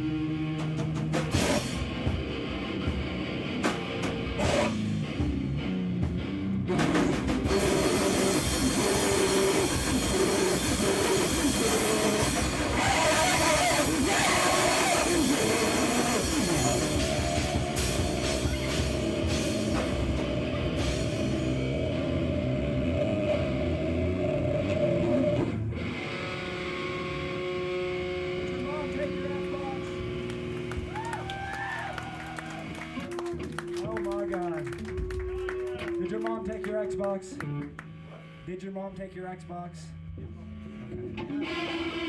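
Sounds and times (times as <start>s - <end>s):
live noise rock band: 0.0s - 38.0s.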